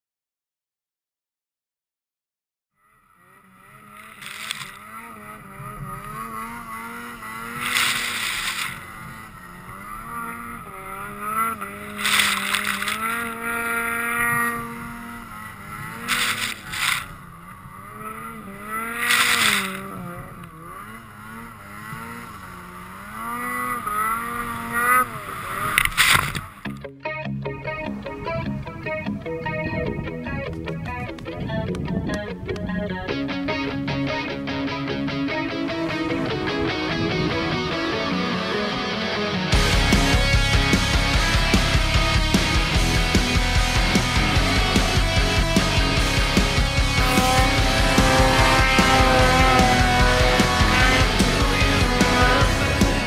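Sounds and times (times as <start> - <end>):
snowmobile engine revving: 3.0 - 26.8, 27.8 - 53.0.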